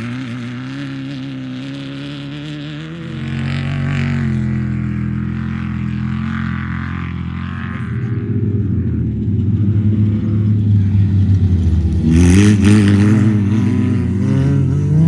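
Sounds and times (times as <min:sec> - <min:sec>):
race vehicle engine running: 0:00.0 - 0:15.0.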